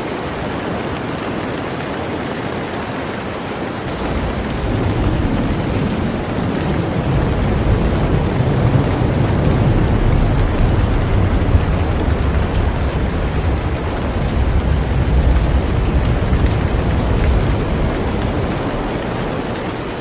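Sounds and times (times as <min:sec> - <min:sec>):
heavy rain on a boat: 0:00.0 - 0:20.0
deep continuous rumble: 0:03.9 - 0:20.0.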